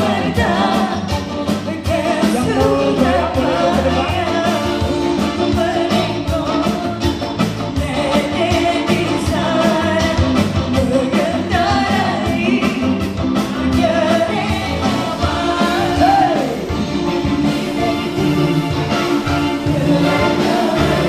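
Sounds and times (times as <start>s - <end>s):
amplified music with drum beat: 0.0s - 21.0s
group singing pop song: 0.0s - 21.0s.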